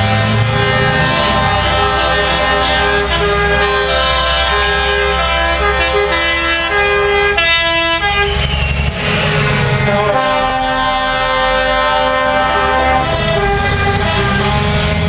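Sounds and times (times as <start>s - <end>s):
diesel truck engines rumbling: 0.0s - 15.0s
truck air horns: 0.0s - 15.0s.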